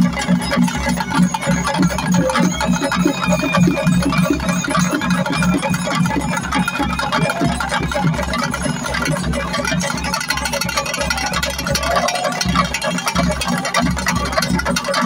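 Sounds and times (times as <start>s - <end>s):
drums played in quick beat: 0.0s - 15.0s.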